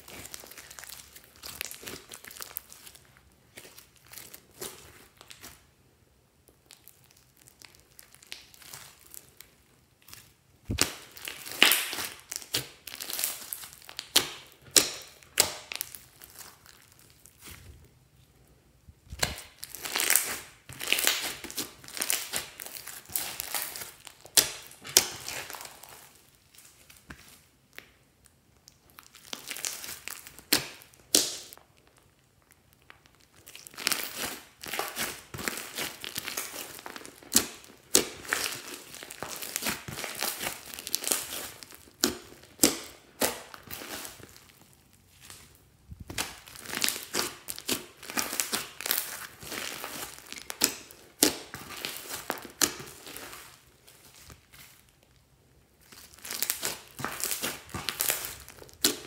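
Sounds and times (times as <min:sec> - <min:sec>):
slime squishing with crackles: 0:00.0 - 0:59.0.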